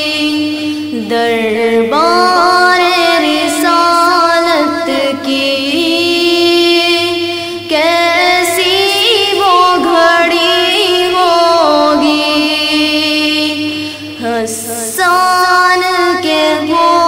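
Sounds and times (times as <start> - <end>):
boy singing unaccompanied: 0.0 - 17.0.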